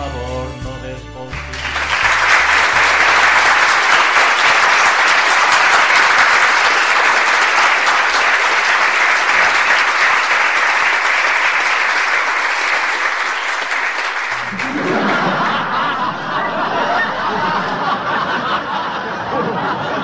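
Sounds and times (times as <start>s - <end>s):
audience applause: 1.4s - 20.0s.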